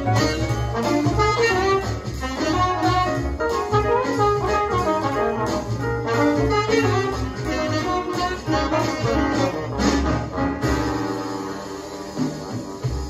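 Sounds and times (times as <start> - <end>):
bass: 0.0 - 13.0
drums keeping a steady beat: 0.0 - 13.0
saxophone and brass: 0.0 - 13.0.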